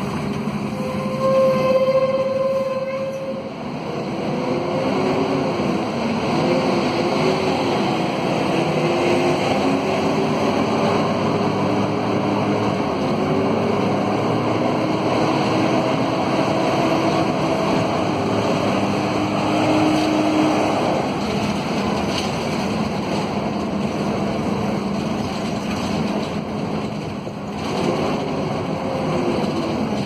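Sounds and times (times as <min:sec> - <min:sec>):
bus diesel engine: 0:00.0 - 0:30.0
road noise: 0:00.0 - 0:30.0.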